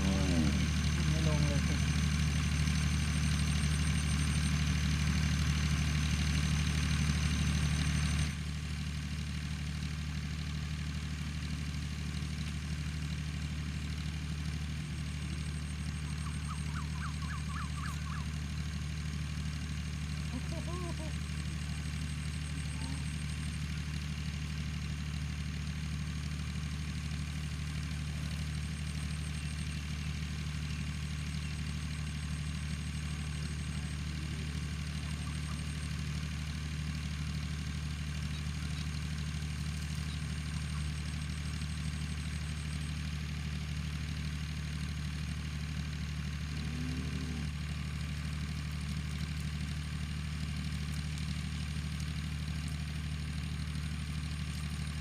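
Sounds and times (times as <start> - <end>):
excavator engine idling: 0.0 - 55.0.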